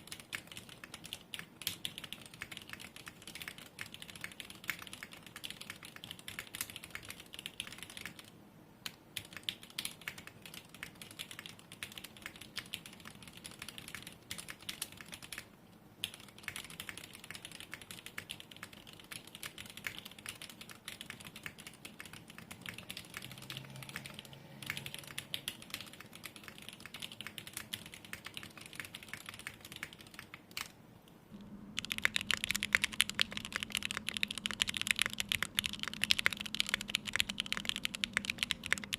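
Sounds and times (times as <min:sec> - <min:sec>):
mechanical keyboard typing: 0:00.0 - 0:30.8, 0:31.4 - 0:38.9.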